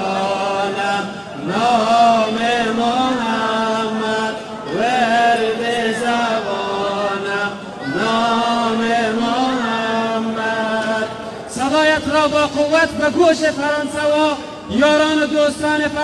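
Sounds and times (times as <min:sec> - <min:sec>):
person chanting devotional song: 0:00.0 - 0:16.0.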